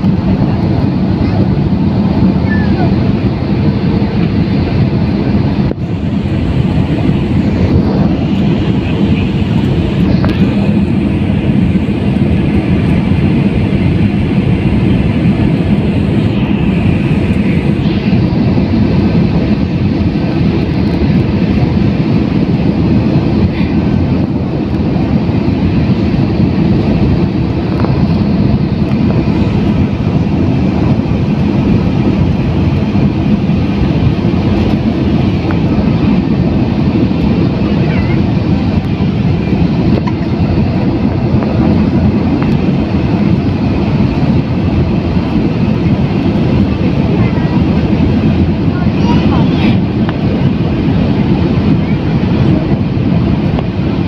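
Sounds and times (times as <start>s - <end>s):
airliner engines droning: 0.0s - 54.0s
rushing air: 0.0s - 54.0s.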